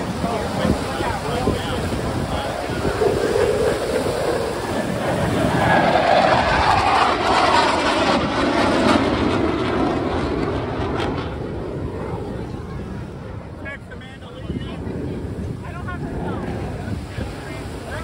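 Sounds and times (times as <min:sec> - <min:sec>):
jets passing by: 0:00.0 - 0:18.0.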